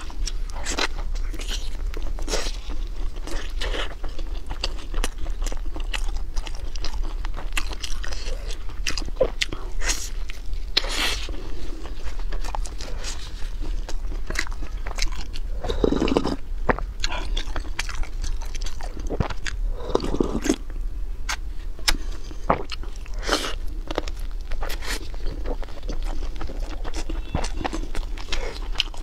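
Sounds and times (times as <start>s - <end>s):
crunching and chewing fried chicken: 0.0s - 29.0s.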